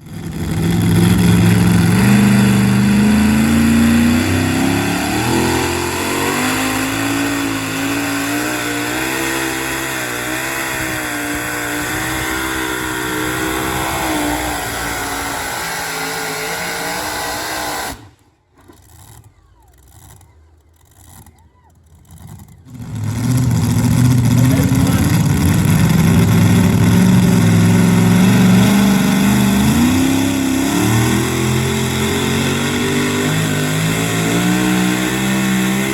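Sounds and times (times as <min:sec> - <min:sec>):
truck engine at full throttle: 0:00.0 - 0:35.9.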